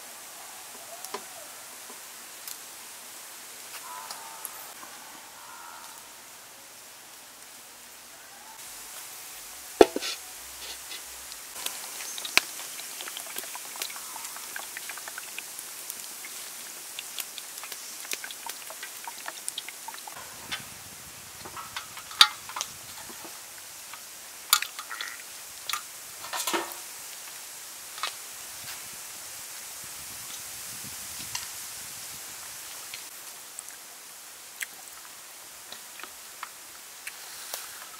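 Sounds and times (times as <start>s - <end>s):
wood fire crackling: 0.5s - 6.1s, 8.6s - 37.9s.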